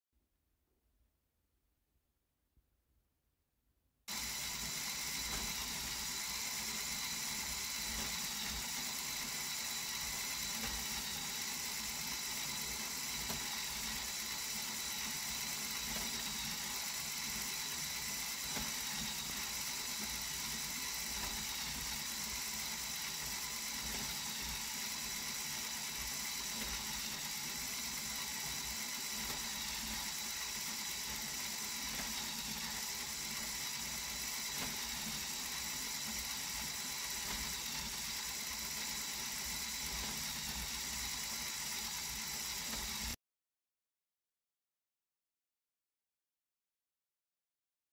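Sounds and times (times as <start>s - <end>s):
motor whirring: 4.1s - 43.2s
plastic gears ratcheting rattle: 4.1s - 43.2s.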